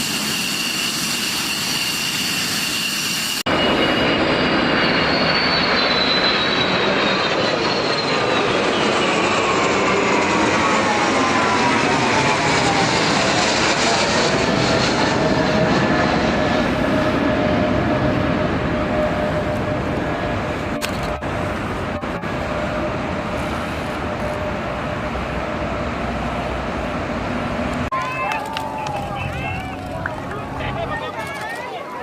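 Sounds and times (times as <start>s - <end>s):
jet aircraft flying past: 0.0s - 32.0s.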